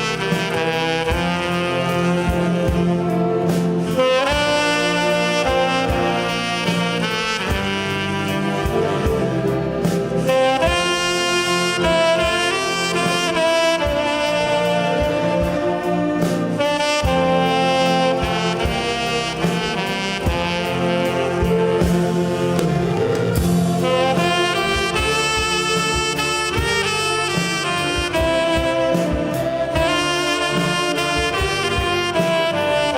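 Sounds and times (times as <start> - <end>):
light drum beats: 0.0 - 32.9
saxophone ensemble accompaniment: 0.0 - 32.9
tenor saxophone ballad melody: 0.0 - 32.9.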